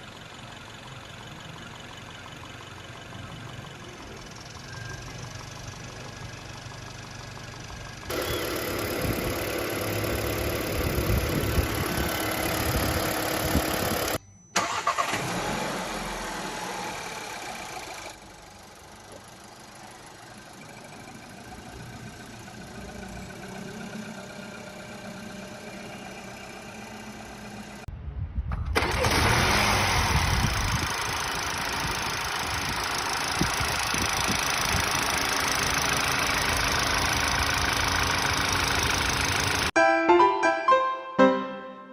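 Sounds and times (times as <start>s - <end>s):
car engine running: 0.0s - 15.1s, 15.7s - 27.9s, 28.8s - 39.8s.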